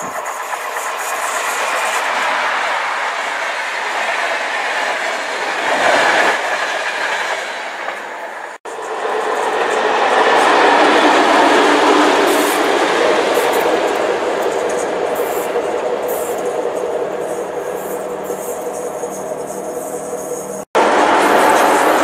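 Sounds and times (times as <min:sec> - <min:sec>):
diesel locomotive engines: 0:00.0 - 0:22.0
train coaches rolling on rails: 0:00.0 - 0:22.0.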